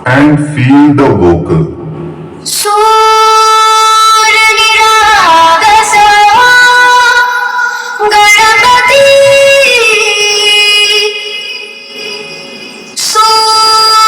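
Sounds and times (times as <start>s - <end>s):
music with long held sung notes: 2.0s - 14.0s.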